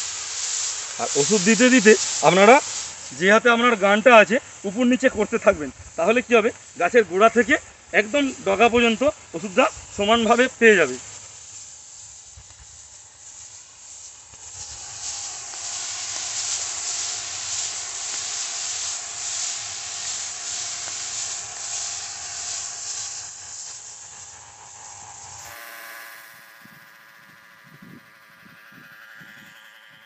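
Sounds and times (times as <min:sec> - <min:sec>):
pressure spray gun hissing: 0:00.0 - 0:30.0.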